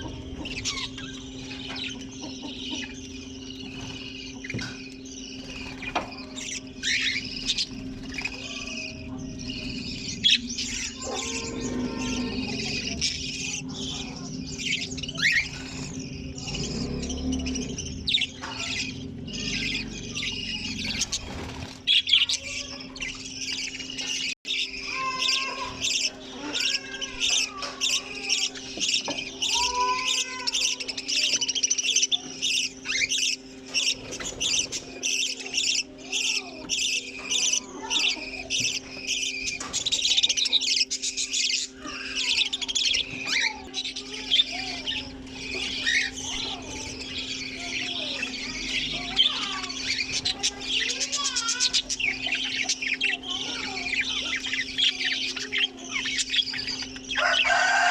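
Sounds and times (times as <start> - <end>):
budgerigars chattering: 0.0 - 57.9
steady low hum: 0.0 - 57.9.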